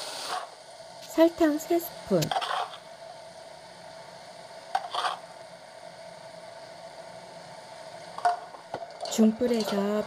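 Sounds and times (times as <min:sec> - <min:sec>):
oil sizzling in a wok: 0:00.0 - 0:10.0.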